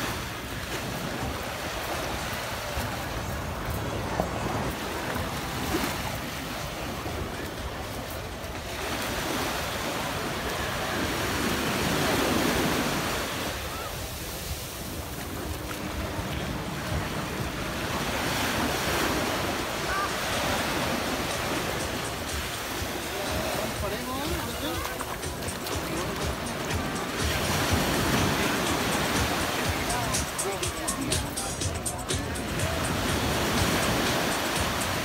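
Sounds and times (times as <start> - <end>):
waves washing up a shore: 0.0 - 35.0.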